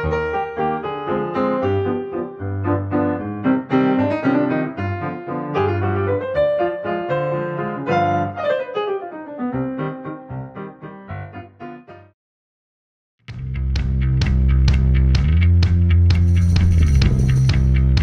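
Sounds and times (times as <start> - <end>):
piano instrumental music: 0.0 - 12.2, 13.6 - 18.0.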